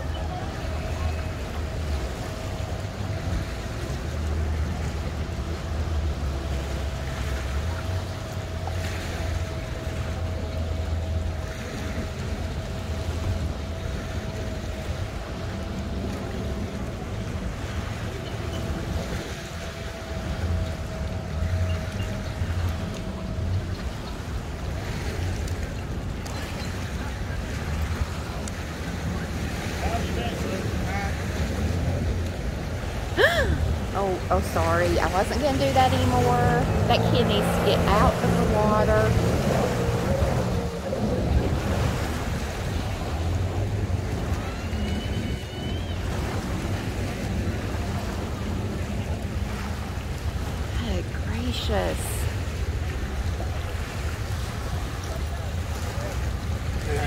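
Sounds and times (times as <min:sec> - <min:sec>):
boat and jet-ski engines rumbling: 0:00.0 - 0:57.0
choppy water: 0:00.0 - 0:57.0
wind buffeting microphone: 0:00.0 - 0:57.0.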